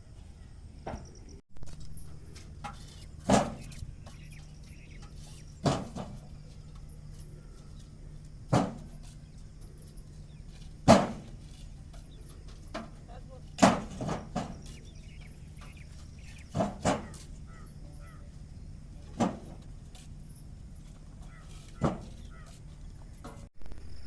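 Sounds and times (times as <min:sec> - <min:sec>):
truck engine idling: 0:01.9 - 0:23.4.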